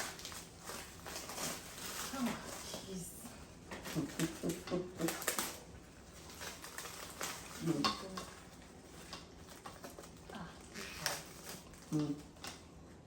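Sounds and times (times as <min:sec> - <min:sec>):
food handling: 0:00.0 - 0:12.8.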